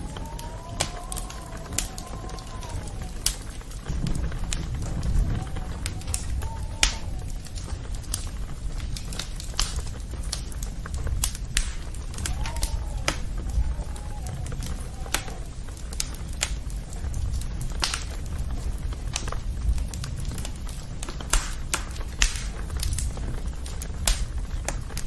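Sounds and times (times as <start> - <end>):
campfire crackling and popping: 0.0 - 25.0
low steady rumble: 0.0 - 25.0.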